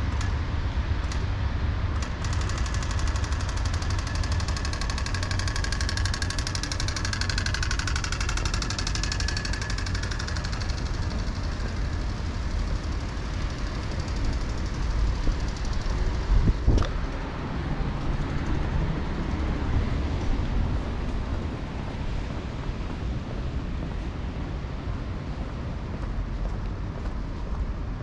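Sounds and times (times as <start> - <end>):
traffic engines rumbling: 0.0 - 28.0.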